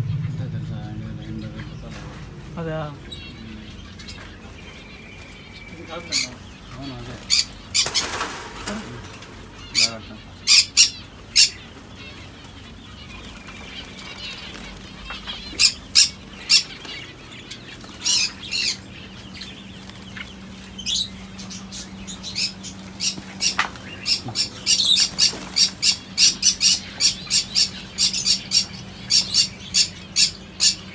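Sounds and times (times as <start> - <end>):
lovebirds chirping shrilly: 1.2 - 30.9.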